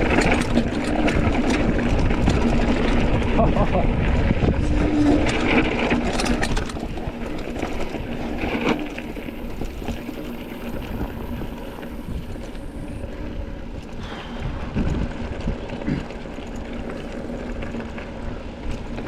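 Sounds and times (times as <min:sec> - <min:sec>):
wind rushing over microphone: 0:00.0 - 0:16.1
mountain bike rattling: 0:00.0 - 0:19.0.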